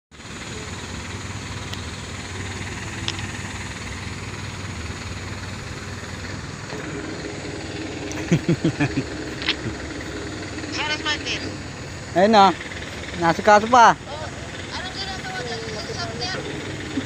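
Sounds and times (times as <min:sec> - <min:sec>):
truck engine running: 0:00.1 - 0:17.0.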